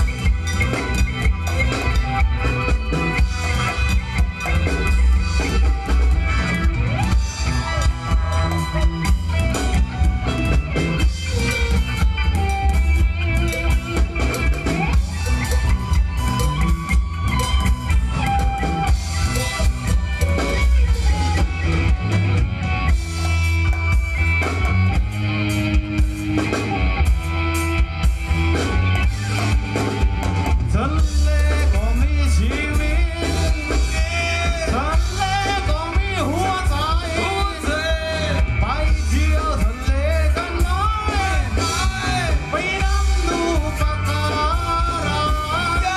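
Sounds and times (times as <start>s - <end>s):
band playing dance music: 0.0s - 45.9s
heavy bass: 0.0s - 45.9s
steady drum beat: 0.0s - 45.9s.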